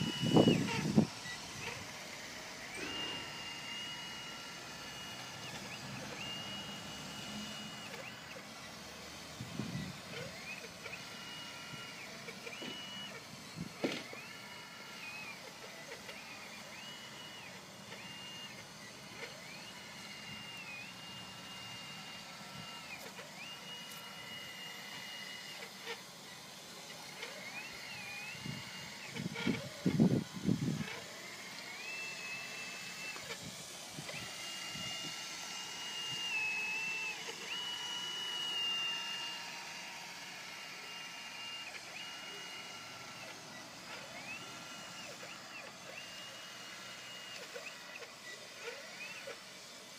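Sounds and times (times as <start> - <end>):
model loader electric drive whining: 0.0 - 49.9.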